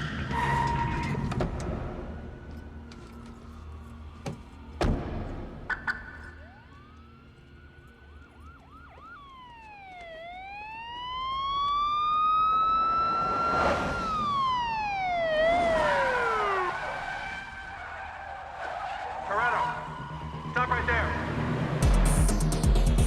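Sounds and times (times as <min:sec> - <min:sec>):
police car siren wailing: 0:00.0 - 0:21.9.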